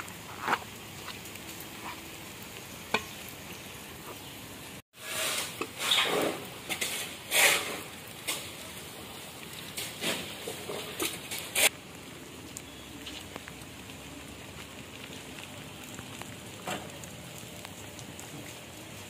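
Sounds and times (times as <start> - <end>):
fire stoked with a stick: 0.0 - 4.3, 4.9 - 19.0
steady hiss: 0.0 - 19.0.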